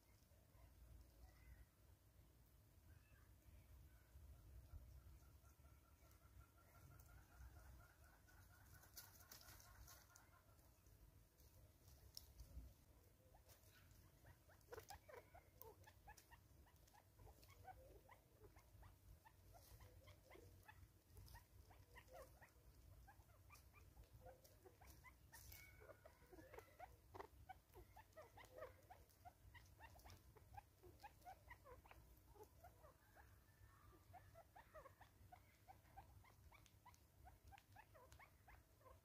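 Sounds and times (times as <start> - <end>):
soft bird chirps and ticks: 0.0 - 39.0.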